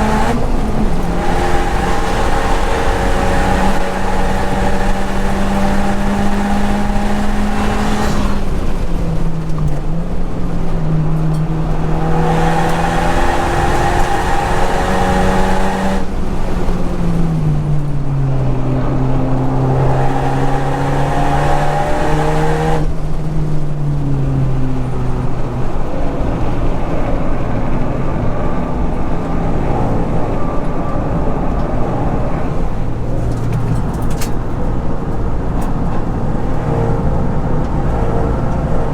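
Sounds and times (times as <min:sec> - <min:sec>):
car engine revving on track: 0:00.0 - 0:38.9.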